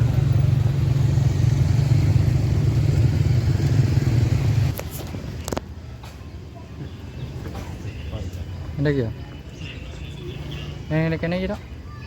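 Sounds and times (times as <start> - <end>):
engine humming: 0.0 - 10.9.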